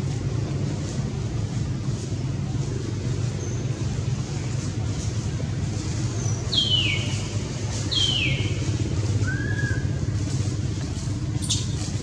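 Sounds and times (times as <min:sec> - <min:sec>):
low motor rumble: 0:00.0 - 0:12.0.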